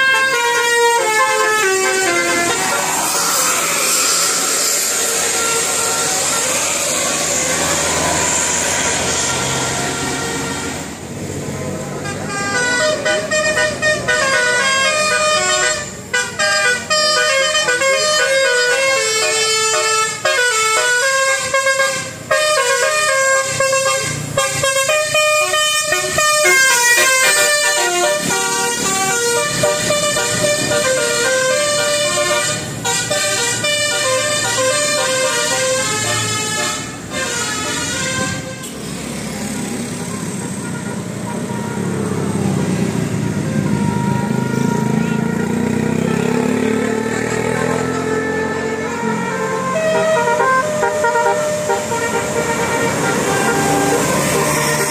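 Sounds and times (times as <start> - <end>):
vehicle horns playing a tune: 0.0 - 11.0, 11.9 - 39.0, 39.6 - 42.3, 43.0 - 54.9.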